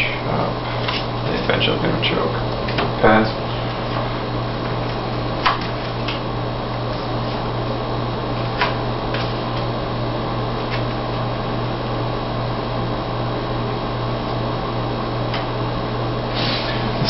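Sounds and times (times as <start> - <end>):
fan-like room hum: 0.0 - 17.0.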